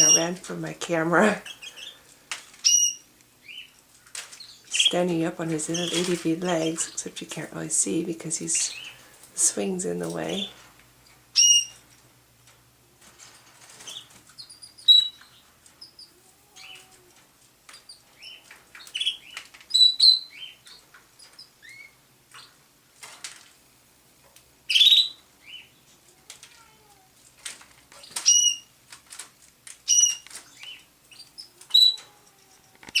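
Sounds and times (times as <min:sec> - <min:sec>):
canaries chirping: 0:00.0 - 0:11.9, 0:13.2 - 0:23.1, 0:24.6 - 0:26.7, 0:27.4 - 0:33.0.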